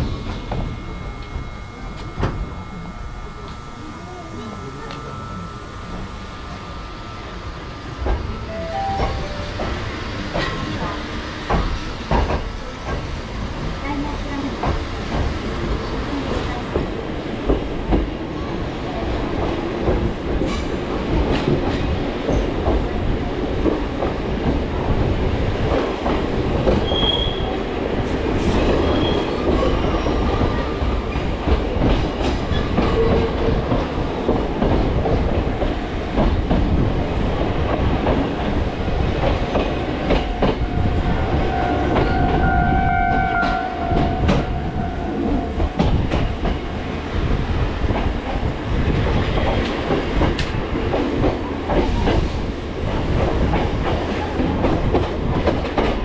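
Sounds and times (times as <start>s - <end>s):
train wheels clacking: 7.9s - 18.2s, 19.3s - 56.0s.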